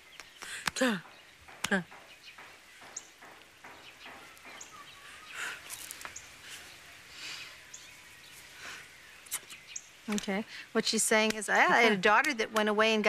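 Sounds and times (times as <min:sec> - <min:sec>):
faint bird chirps: 0:00.0 - 0:10.7.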